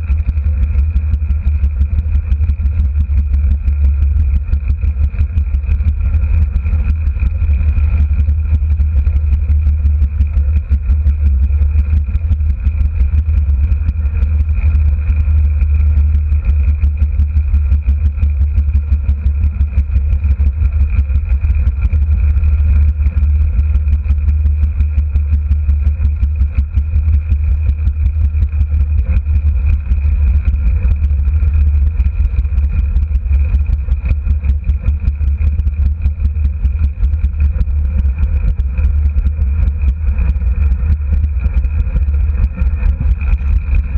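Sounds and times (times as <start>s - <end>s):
thin steady whine: 0.0s - 43.9s.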